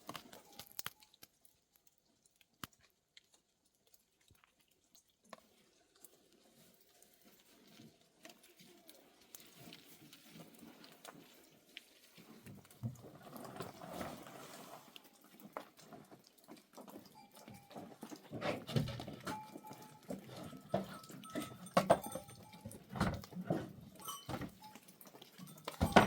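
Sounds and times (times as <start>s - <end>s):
rustling: 3.2s - 26.0s.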